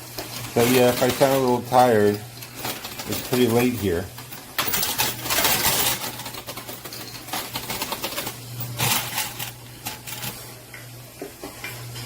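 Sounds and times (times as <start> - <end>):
machine low hum: 0.0 - 12.0
coins clinking in a machine: 0.2 - 10.4.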